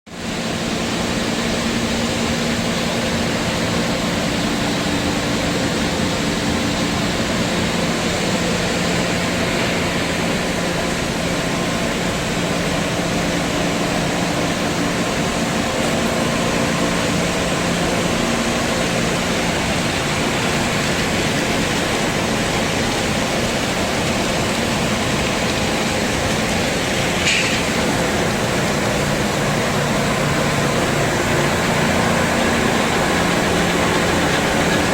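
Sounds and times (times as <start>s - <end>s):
machine motors running: 0.3s - 34.9s.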